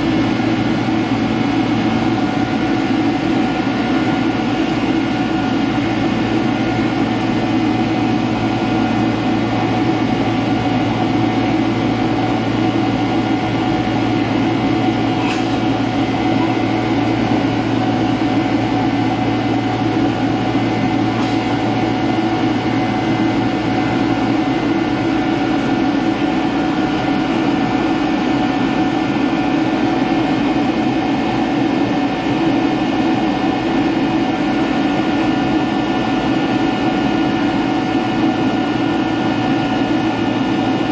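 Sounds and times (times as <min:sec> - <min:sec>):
jet engines heard inside cabin: 0:00.0 - 0:40.9.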